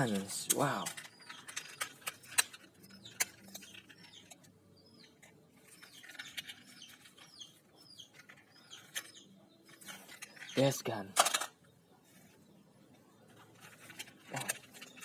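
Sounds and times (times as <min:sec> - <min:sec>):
faint bird chirps: 0:00.2 - 0:15.0.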